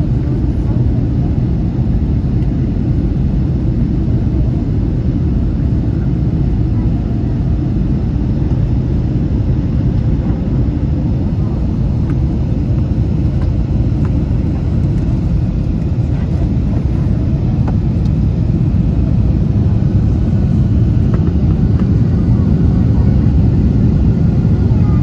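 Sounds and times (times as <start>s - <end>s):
jet engine cabin rumble: 0.0s - 25.0s.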